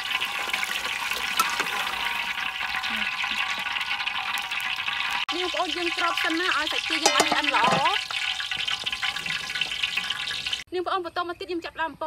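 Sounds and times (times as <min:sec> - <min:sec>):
liquid pouring into a pot: 0:00.0 - 0:10.6.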